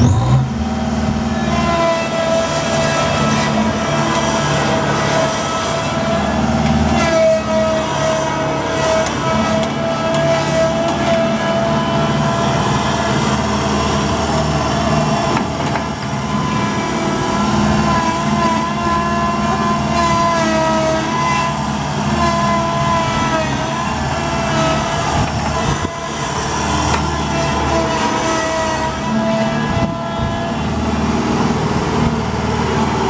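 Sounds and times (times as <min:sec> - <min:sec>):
skid steer loader engine: 0:00.0 - 0:33.0.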